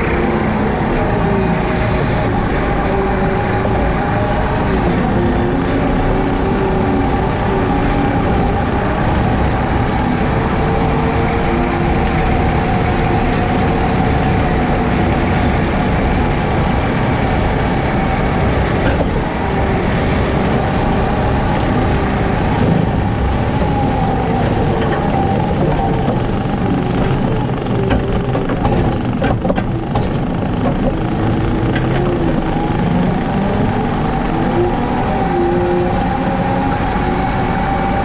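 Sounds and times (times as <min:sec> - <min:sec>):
diesel engine under load: 0:00.0 - 0:38.0.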